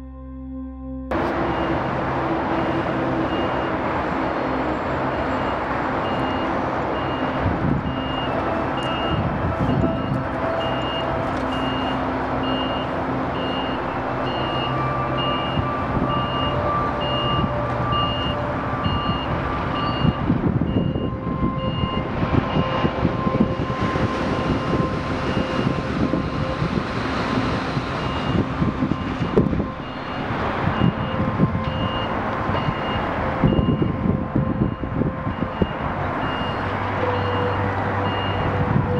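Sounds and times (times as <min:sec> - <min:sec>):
reversing alarm beeping: 0:01.1 - 0:04.2, 0:05.0 - 0:38.9
heavy diesel machinery running: 0:01.1 - 0:38.9.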